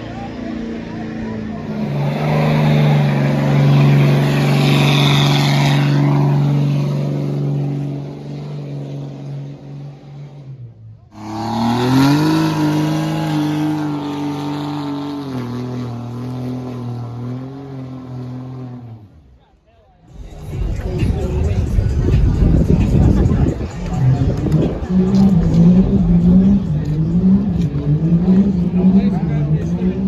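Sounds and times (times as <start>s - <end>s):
truck engine at high revs: 0.0s - 19.4s, 20.1s - 30.0s
second truck engine revving: 1.6s - 19.4s, 20.1s - 30.0s.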